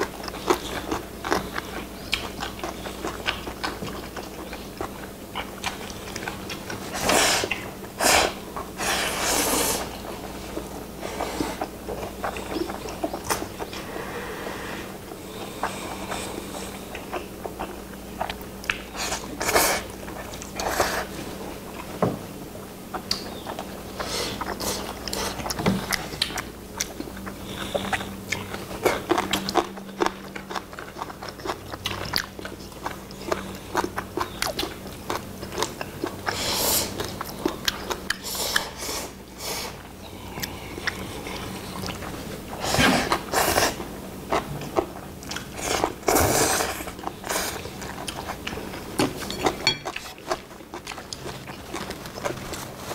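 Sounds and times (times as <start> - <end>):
chewing and lip-smacking: 0.0 - 13.8, 15.3 - 22.0, 22.9 - 52.9.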